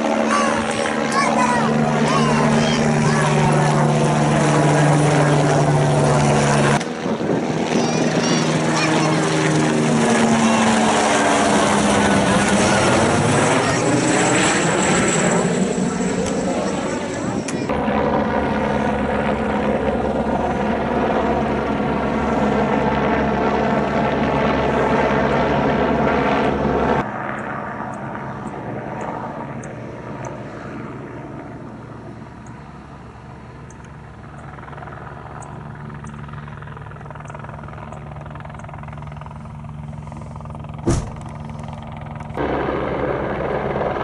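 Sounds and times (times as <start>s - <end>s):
distant helicopter flying low: 0.0s - 44.0s
helicopter rotor and turbine whine: 0.0s - 44.0s.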